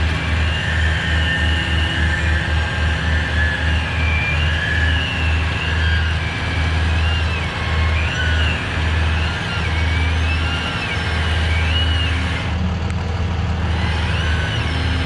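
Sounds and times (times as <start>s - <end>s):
thin wavering whine: 0.0s - 15.0s
truck engine running: 0.0s - 15.0s.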